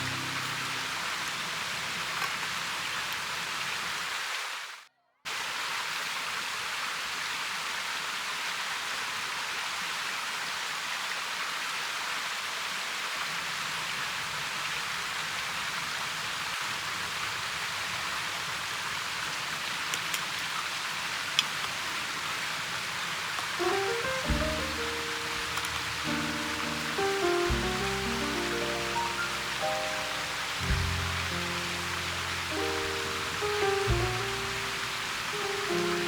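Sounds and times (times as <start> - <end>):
stream water rushing: 0.0 - 36.0.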